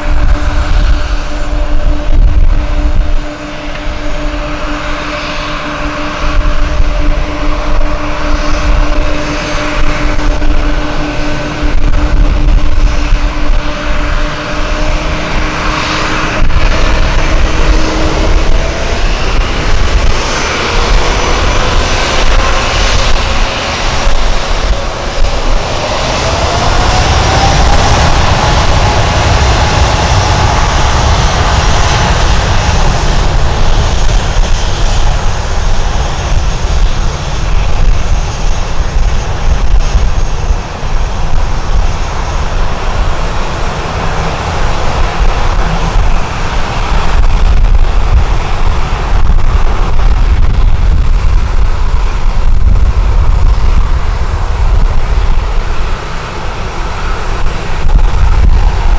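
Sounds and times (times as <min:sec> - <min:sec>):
airliner engines running: 0:00.0 - 0:58.9.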